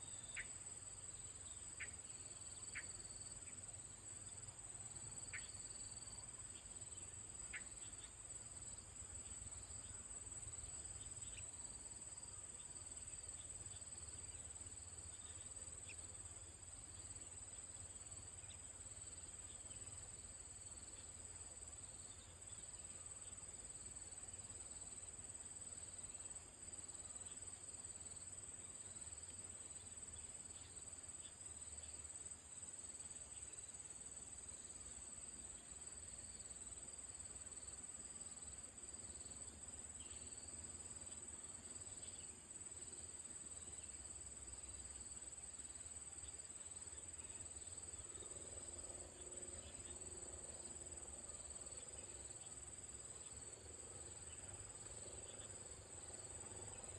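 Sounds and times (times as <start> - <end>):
faint insect chirps: 0.0 - 56.9
insect chorus trilling: 0.0 - 56.9.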